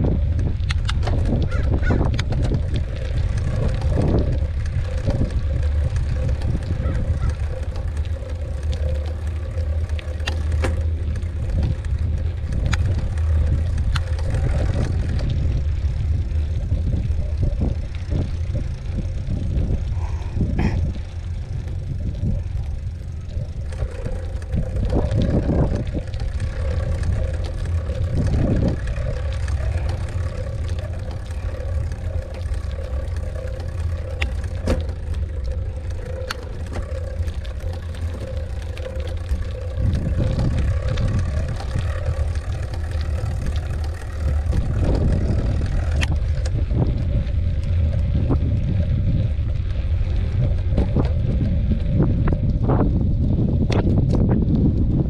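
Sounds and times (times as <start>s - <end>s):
bike clicks and rattles: 0.0s - 55.0s
mountain bike rolling on dirt: 0.0s - 55.0s
wind rumbling on microphone: 0.0s - 55.0s.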